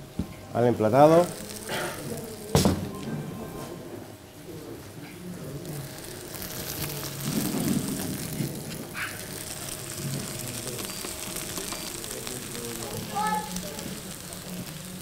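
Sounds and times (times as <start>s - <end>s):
food sizzling in frying pan: 0.0s - 3.7s, 5.2s - 15.0s.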